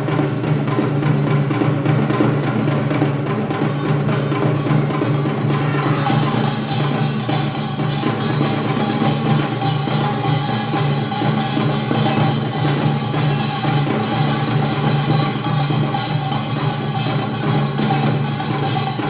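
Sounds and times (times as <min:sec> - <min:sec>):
percussion ensemble playing fast rhythm: 0:00.0 - 0:19.0.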